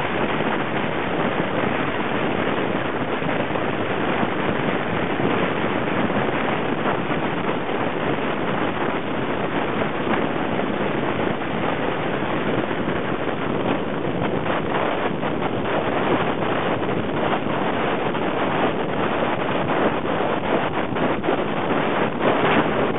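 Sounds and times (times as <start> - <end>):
car road and wind noise: 0.0 - 22.9.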